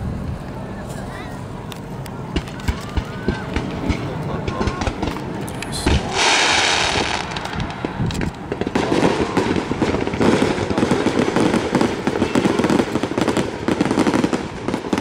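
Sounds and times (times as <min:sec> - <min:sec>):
fireworks popping and crackling: 0:01.7 - 0:15.0
fireworks bangs: 0:02.3 - 0:15.0.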